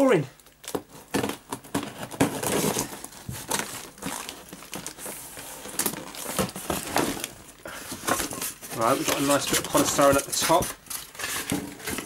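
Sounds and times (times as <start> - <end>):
cardboard rustling: 0.6 - 12.0.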